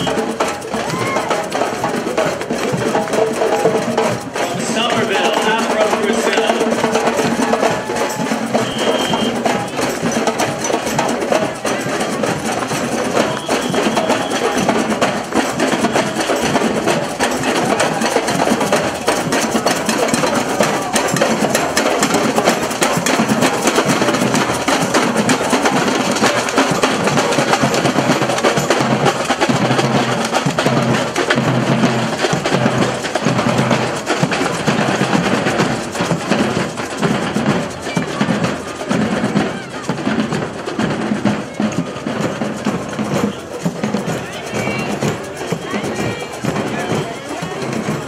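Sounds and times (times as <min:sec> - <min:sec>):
marching band drumming: 0:00.0 - 0:48.0.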